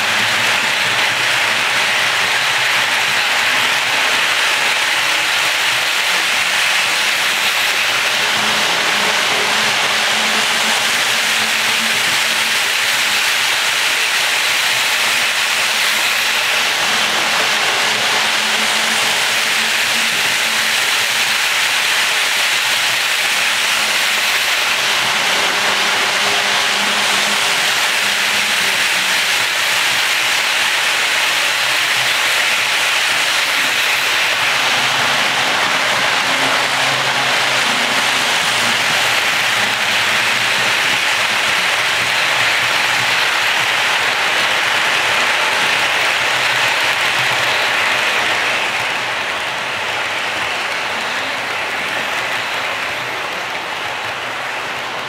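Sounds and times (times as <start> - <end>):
model train wheels rushing on rails: 0.0 - 55.0.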